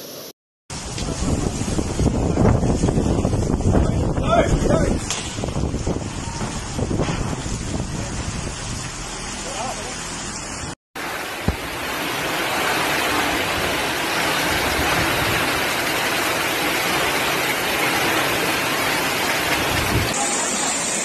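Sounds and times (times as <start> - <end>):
heavy rain and wind lashing trees: 0.0 - 21.0.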